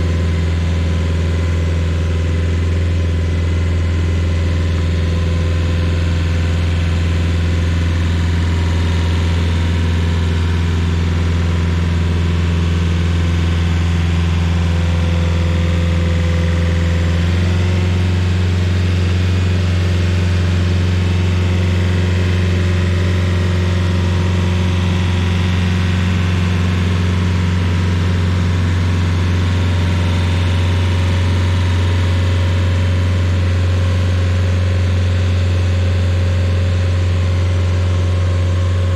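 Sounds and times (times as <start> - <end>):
stump grinder engine running: 0.0 - 38.9.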